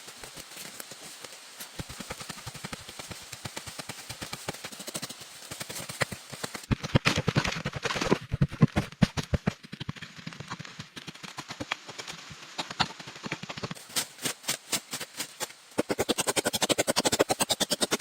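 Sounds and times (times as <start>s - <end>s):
sharp taps and knocks: 1.8s - 18.0s.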